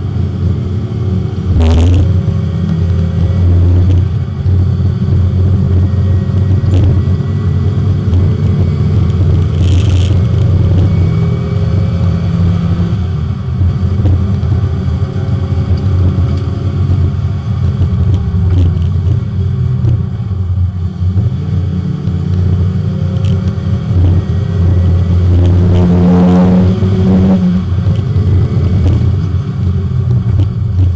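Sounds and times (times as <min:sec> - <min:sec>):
race car engine running hard: 0:00.0 - 0:30.9.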